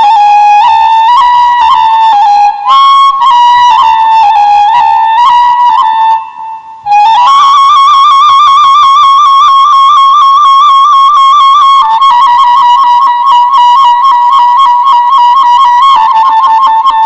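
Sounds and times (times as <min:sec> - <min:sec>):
flute-like wind instrument melody: 0:00.0 - 0:17.0.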